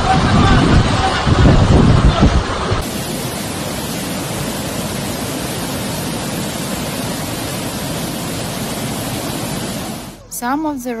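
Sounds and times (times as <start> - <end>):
water rushing over rocks: 0.0 - 10.2.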